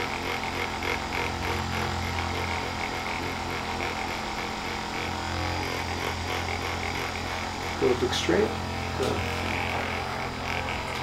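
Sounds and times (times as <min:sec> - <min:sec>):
percussion massager motor buzz: 0:00.0 - 0:11.0.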